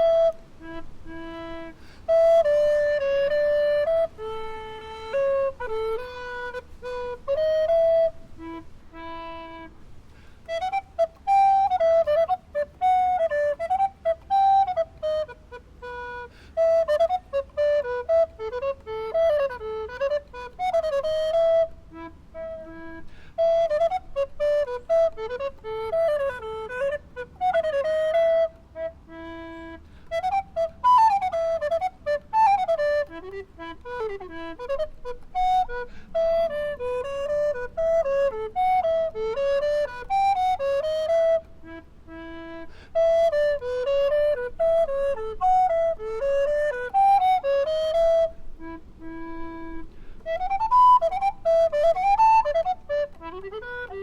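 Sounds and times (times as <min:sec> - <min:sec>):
recorder melody: 0:00.0 - 0:54.0.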